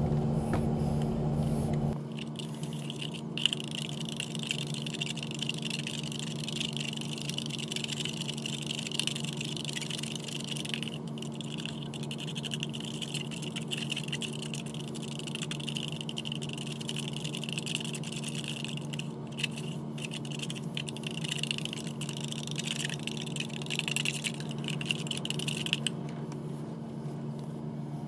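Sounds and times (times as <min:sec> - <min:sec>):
low steady hum: 0:00.0 - 0:28.0
plaster stirred in plastic cup: 0:02.0 - 0:26.0.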